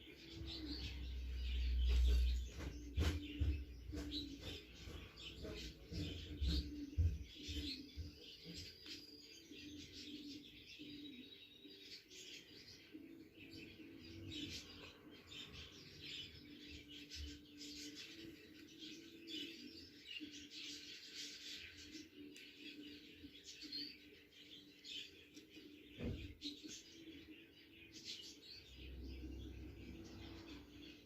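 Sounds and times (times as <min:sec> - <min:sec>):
budgerigars chirping and chattering: 0:00.0 - 0:31.0.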